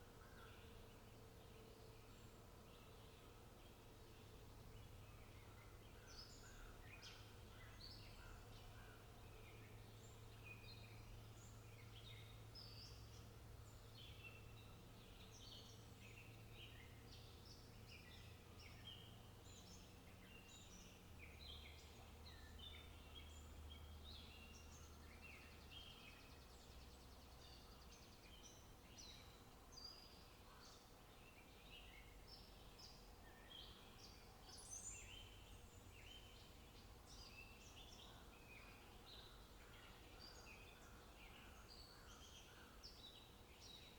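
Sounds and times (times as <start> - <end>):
wild birds chirping: 4.8 - 43.9.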